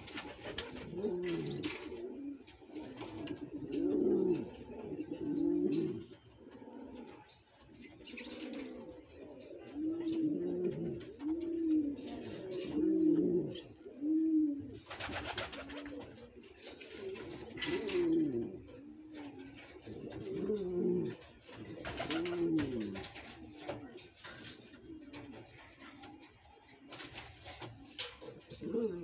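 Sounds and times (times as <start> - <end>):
pigeon cooing: 0.0 - 29.0.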